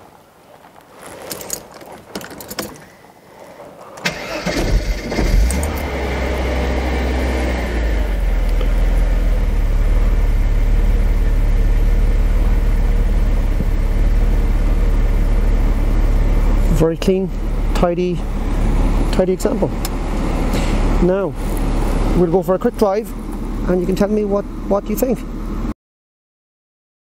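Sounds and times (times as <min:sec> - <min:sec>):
car engine starting and idling: 0:03.8 - 0:25.7.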